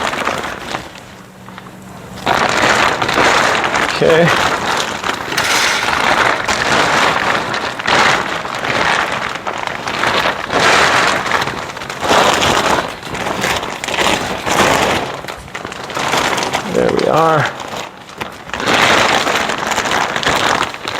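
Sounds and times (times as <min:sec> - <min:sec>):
plastic sheet rustling and crinkling: 0:00.0 - 0:20.9.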